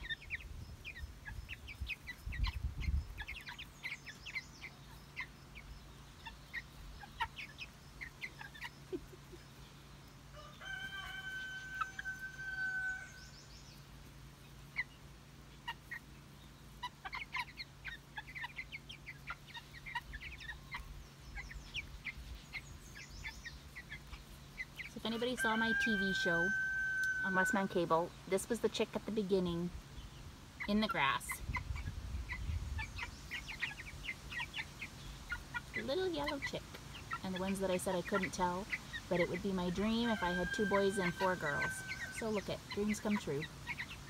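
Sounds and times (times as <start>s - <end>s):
chicks peeping and cheeping: 0.0s - 44.0s.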